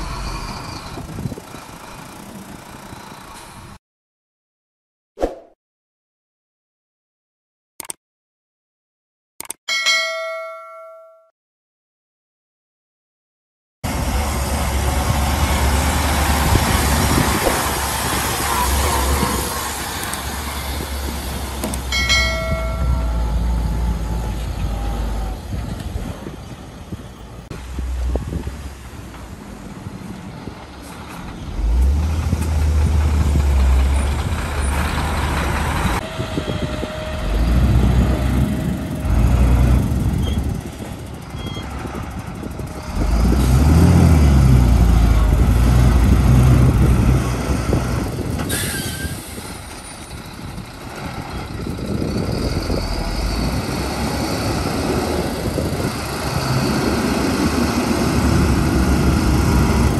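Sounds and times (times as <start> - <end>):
heavy diesel truck engines: 0.0 - 3.8, 13.8 - 59.9.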